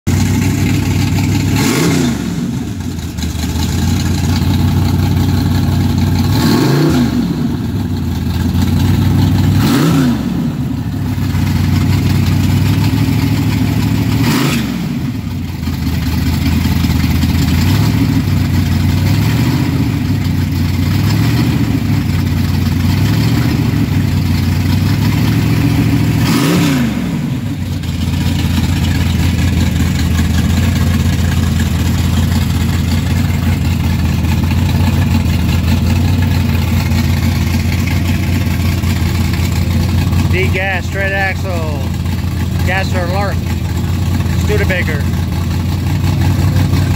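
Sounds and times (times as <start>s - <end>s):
car engine idling and revving: 0.1s - 46.9s.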